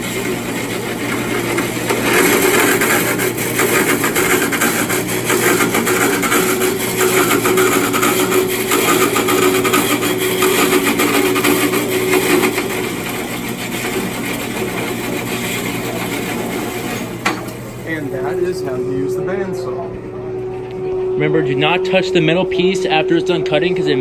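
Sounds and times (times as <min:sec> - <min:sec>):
band saw blade grinding metal: 0:00.0 - 0:19.9
saw motor hum: 0:00.0 - 0:24.0.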